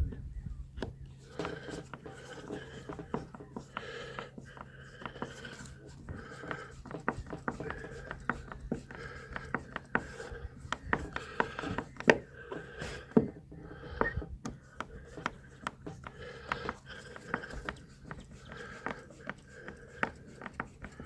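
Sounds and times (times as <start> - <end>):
hand tools tapping on wood: 0.8 - 21.0
scraping on wood: 0.8 - 21.0.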